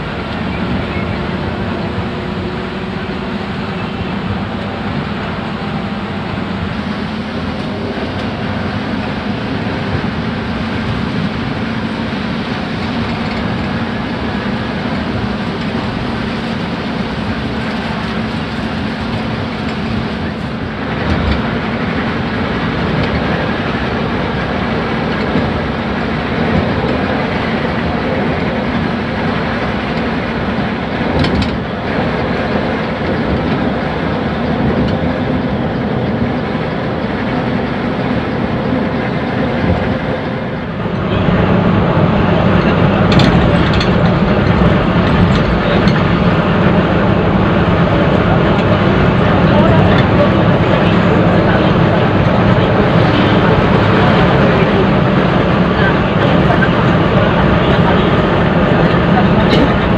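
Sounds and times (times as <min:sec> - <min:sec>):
coach engine drone: 0:00.0 - 0:59.9
tyre and road noise: 0:00.0 - 0:59.9.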